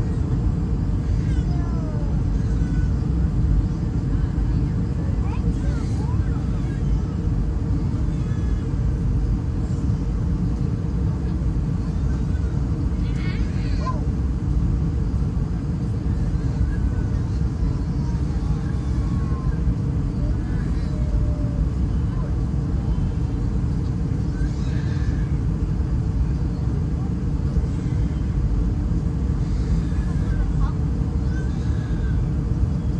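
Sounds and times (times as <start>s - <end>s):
airplane cabin rumble: 0.0s - 32.9s.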